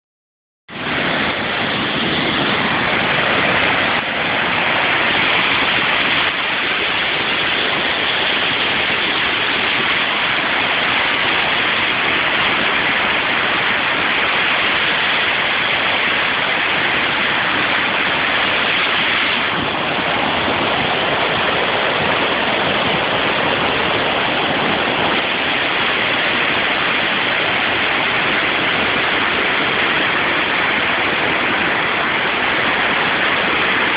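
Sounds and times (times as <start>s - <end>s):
floodwater rushing: 0.7s - 33.9s.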